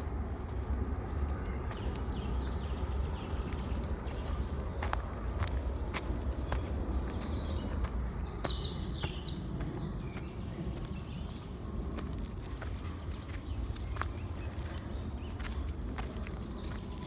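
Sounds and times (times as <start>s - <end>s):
footsteps on forest path: 0.0s - 17.0s
steady low rumble: 0.0s - 17.0s.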